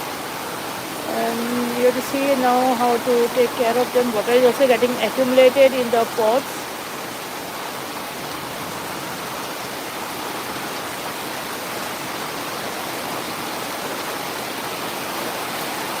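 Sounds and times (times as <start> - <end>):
heavy rain pouring: 0.0 - 16.0
running water: 0.0 - 16.0.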